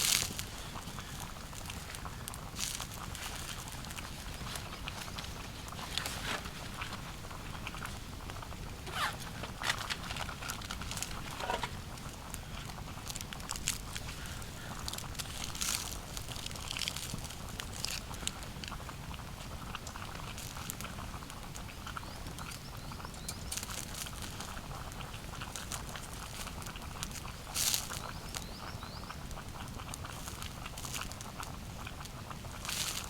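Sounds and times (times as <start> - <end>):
crunching and rustling: 0.0 - 33.0.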